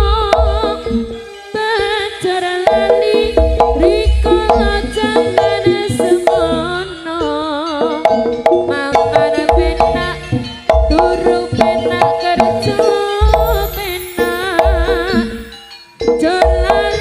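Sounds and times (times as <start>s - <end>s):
driving drum rhythm: 0.0s - 17.0s
struck metallophones: 0.0s - 17.0s
wavering melody line: 0.0s - 17.0s.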